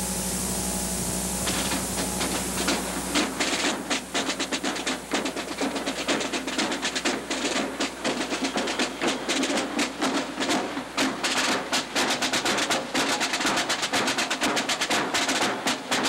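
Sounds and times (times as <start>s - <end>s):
steady hiss: 0.0s - 16.0s
sharp knocks: 1.4s - 16.0s.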